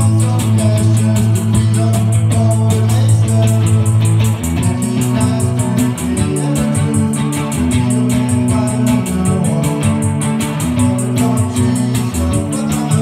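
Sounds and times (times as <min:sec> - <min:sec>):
electric guitar: 0:00.0 - 0:13.0
fast high ticking: 0:00.0 - 0:13.0
held bass note: 0:00.0 - 0:13.0
rock band playing live: 0:00.0 - 0:13.0.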